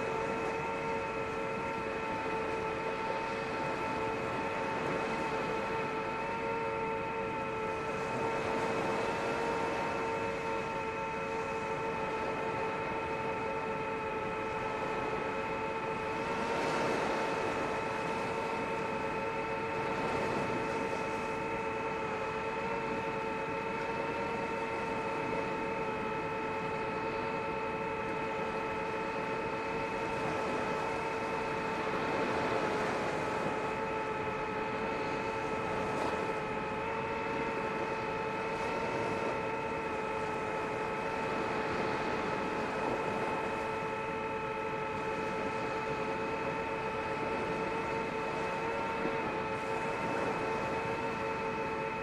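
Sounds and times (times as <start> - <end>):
drone propellers whining: 0.0 - 52.0.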